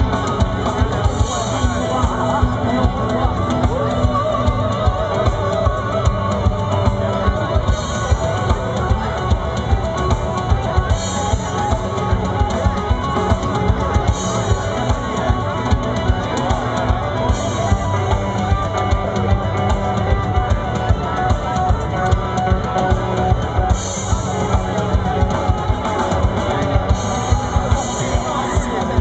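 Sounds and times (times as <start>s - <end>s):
loud rock music: 0.0s - 29.0s.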